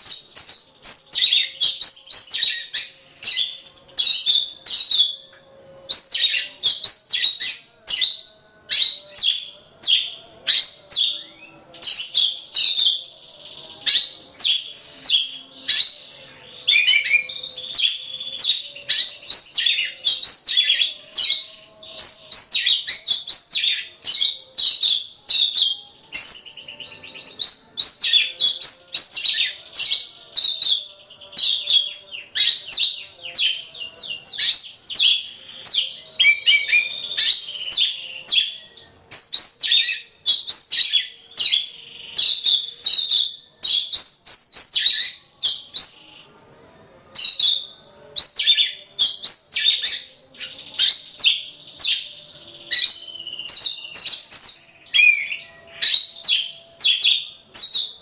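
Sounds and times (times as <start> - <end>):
bird singing whistled notes: 0.0 - 58.0.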